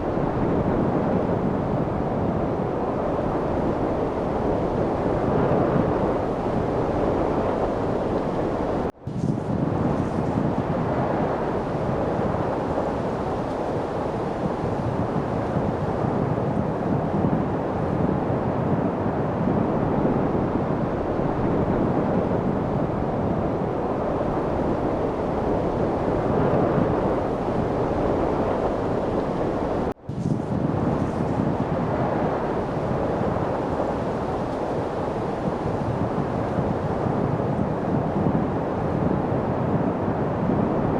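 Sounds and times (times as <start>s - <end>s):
steady wind: 0.0s - 40.9s.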